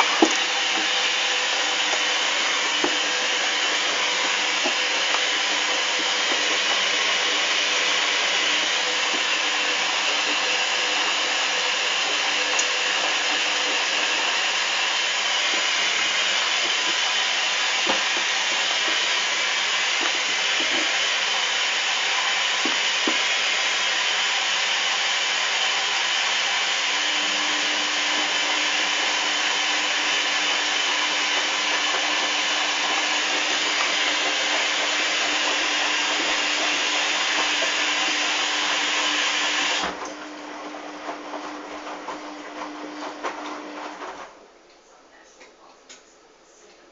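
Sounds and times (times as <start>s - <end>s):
washing machine motor whirring: 0.0s - 44.5s.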